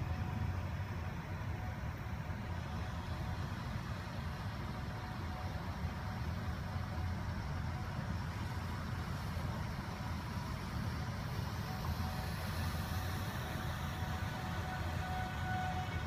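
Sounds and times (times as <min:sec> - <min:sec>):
rain: 0:00.0 - 0:16.0
traffic on flooded street: 0:00.0 - 0:16.0
tyres swishing through water: 0:00.0 - 0:16.0.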